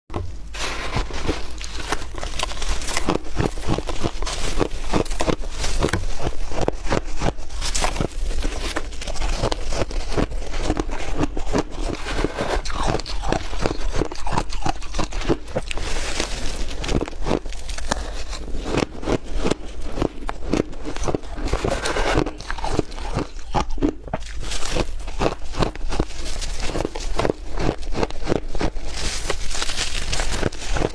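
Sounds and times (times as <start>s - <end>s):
ice being chewed: 0.1s - 30.9s.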